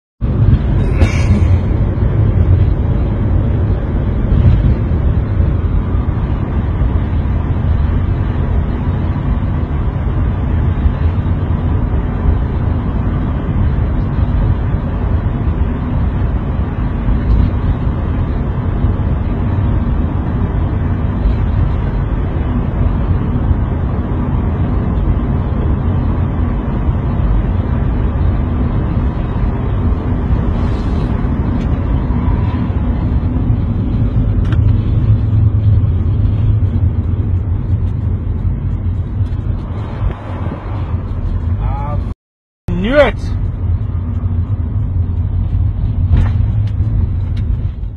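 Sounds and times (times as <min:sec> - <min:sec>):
vehicle driving on road: 0:00.2 - 0:47.9.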